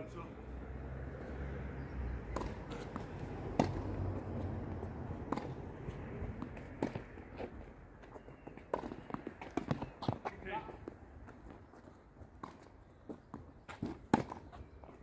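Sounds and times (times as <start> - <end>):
tennis ball bouncing: 1.8 - 11.6, 12.4 - 15.0
rackets hitting tennis ball: 2.1 - 11.6, 12.3 - 15.0.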